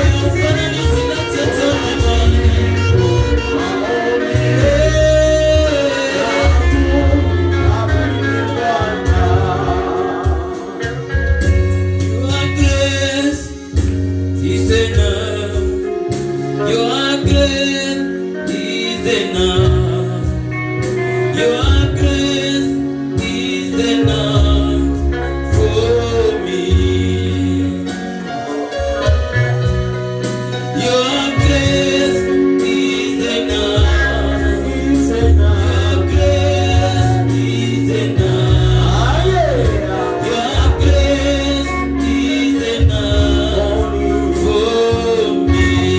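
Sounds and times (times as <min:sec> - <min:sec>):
person singing: 0:00.0 - 0:13.8, 0:14.4 - 0:29.6, 0:30.7 - 0:45.9
stepwise bass line: 0:00.0 - 0:16.6, 0:19.4 - 0:23.4, 0:24.0 - 0:45.9
band playing: 0:00.0 - 0:45.9.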